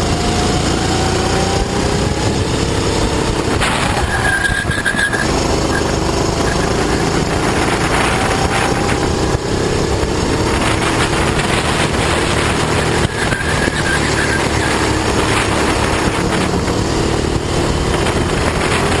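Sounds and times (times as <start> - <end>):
kart engine running hard: 0.0 - 19.0.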